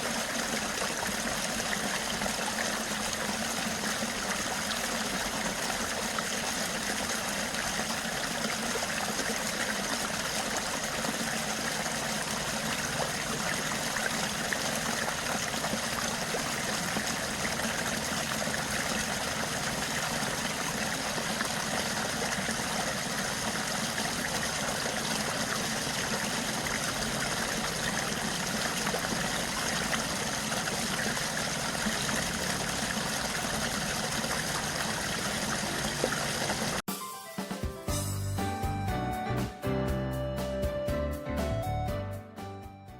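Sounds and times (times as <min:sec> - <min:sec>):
stream water running: 0:00.0 - 0:36.8.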